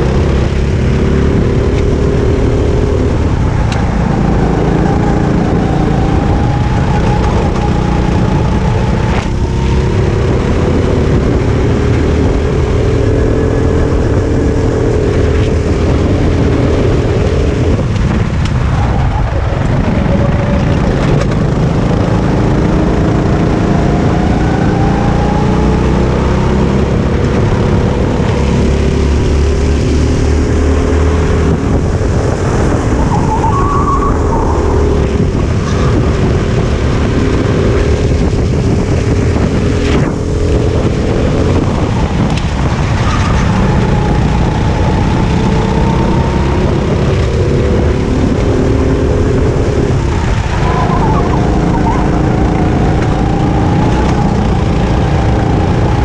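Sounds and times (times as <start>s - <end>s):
go-kart engine at racing speed: 0.0s - 56.0s.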